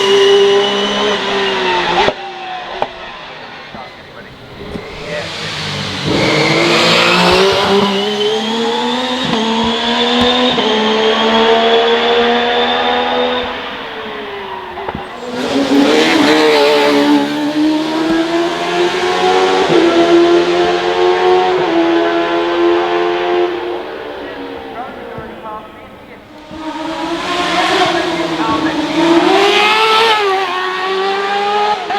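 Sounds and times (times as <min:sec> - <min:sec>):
racing car engine revving: 0:00.0 - 0:31.9.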